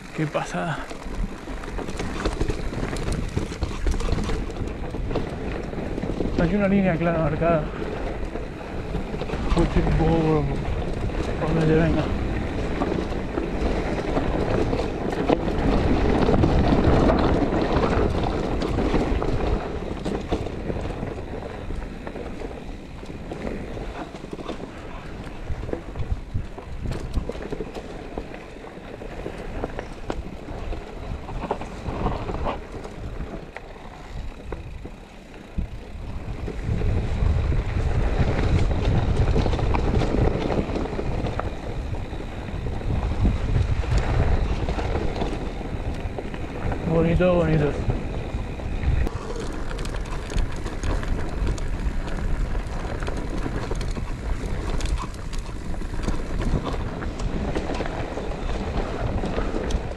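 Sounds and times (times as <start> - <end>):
bike rattling: 0.0 - 59.9
bike tyres rolling on dirt: 0.0 - 59.9
wind on microphone: 0.0 - 59.9.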